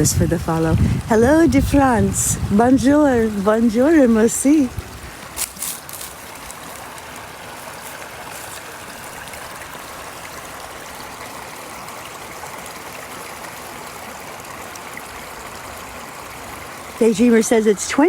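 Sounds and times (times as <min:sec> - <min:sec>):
brook water running: 0:00.0 - 0:18.0.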